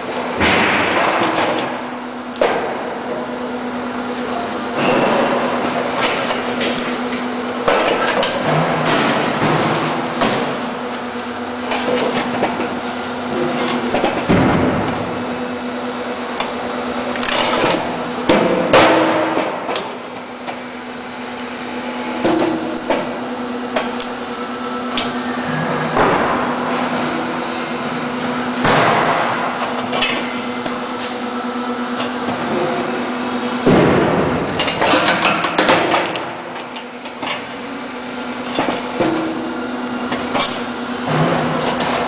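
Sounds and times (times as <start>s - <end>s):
hydraulic unit humming: 0.0s - 42.0s.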